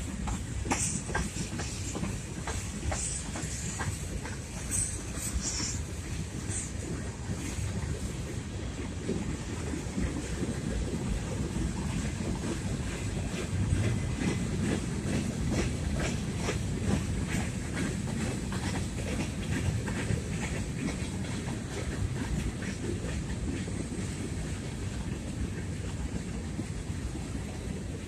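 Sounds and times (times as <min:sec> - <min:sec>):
wheels clicking and clunking: 0:00.0 - 0:07.9, 0:11.6 - 0:26.7.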